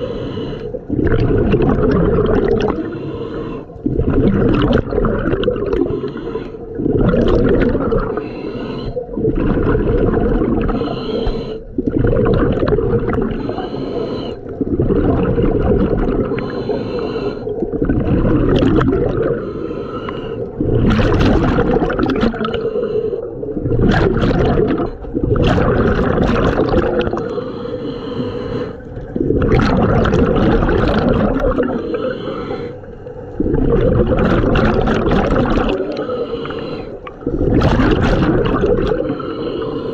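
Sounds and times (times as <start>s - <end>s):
diver breathing through regulator: 0.0s - 1.3s, 2.6s - 4.3s, 5.6s - 39.9s
gurgling exhaled bubbles: 0.7s - 3.0s, 3.8s - 39.9s.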